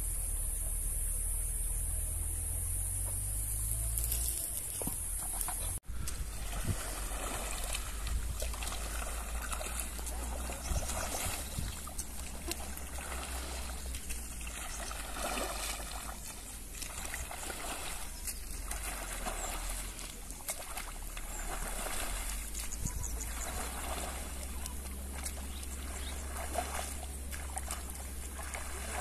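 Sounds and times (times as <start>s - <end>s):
hoe sloshing through water and mud: 3.0s - 29.0s.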